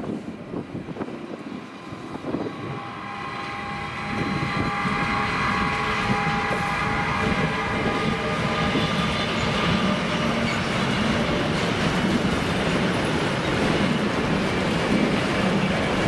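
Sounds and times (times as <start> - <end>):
high-pitched train whine: 0.0 - 16.0
low knocks of train on rails: 1.9 - 16.0.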